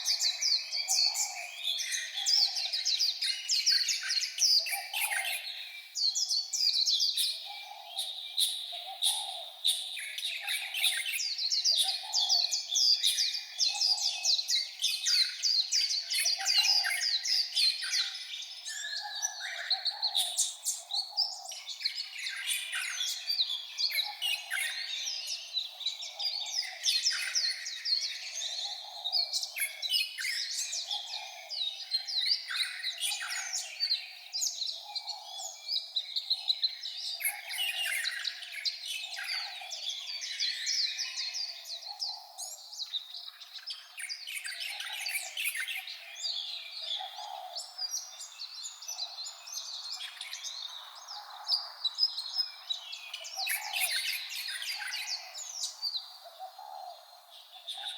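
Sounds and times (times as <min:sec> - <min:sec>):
bird chirping and twittering: 0:00.0 - 0:57.9.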